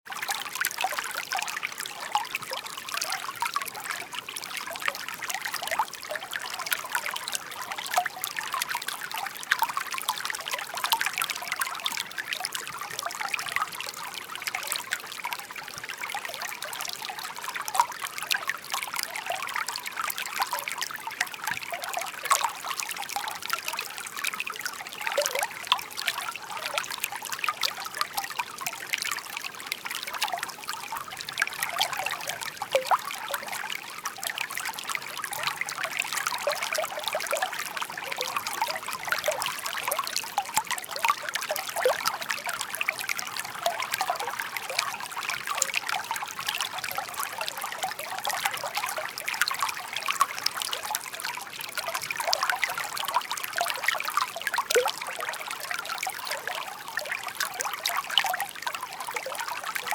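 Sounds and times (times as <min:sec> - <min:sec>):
brook babbling: 0:00.1 - 0:59.9.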